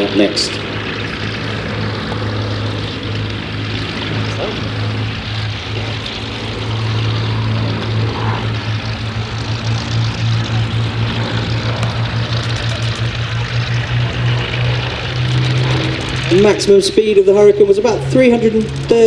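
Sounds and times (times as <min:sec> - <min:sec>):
propeller engines droning: 0:00.0 - 0:19.0.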